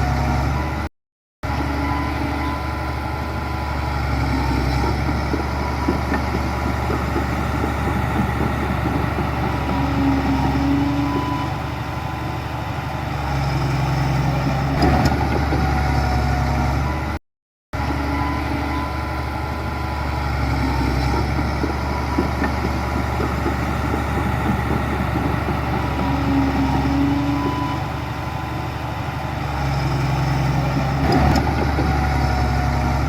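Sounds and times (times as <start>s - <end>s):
diesel engine running: 0.0s - 17.2s, 17.8s - 33.0s.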